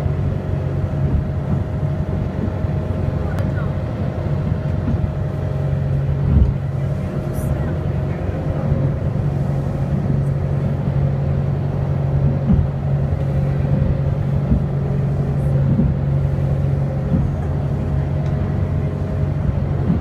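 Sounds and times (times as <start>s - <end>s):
hull rushing through water: 0.0s - 20.0s
motorboat engine drone: 0.0s - 20.0s.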